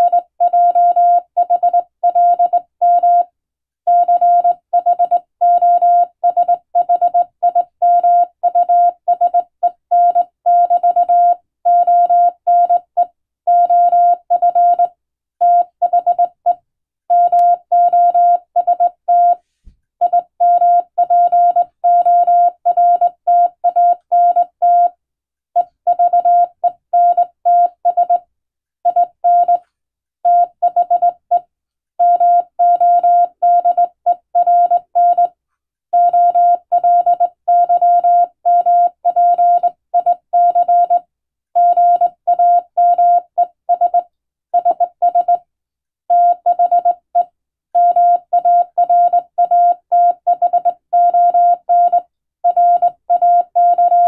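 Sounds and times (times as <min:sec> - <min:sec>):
morse code beeps: 0:03.9 - 0:16.5, 0:17.1 - 0:19.4, 0:20.0 - 0:24.9, 0:25.6 - 0:28.2, 0:28.9 - 0:29.6, 0:30.3 - 0:31.4, 0:32.0 - 0:35.3, 0:36.0 - 0:41.0, 0:41.6 - 0:44.0, 0:44.6 - 0:45.4, 0:46.1 - 0:54.0.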